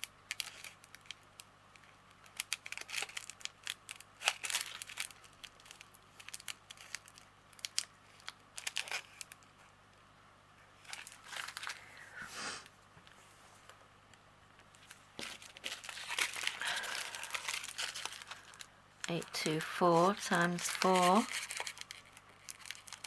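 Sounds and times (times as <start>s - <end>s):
plastic bags crinkling: 0.3s - 9.6s, 10.8s - 12.0s, 14.6s - 23.0s.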